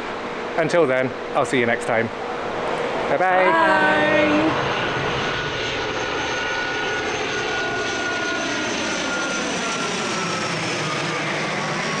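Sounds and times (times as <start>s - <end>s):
turboprop airliner passing overhead: 0.0s - 12.0s.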